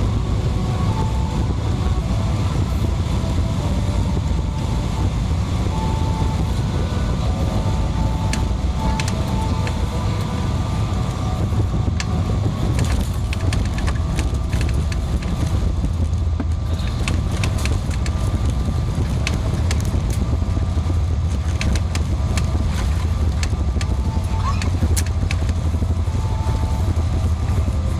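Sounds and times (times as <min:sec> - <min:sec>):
aircraft cabin rumble: 0:00.0 - 0:27.9.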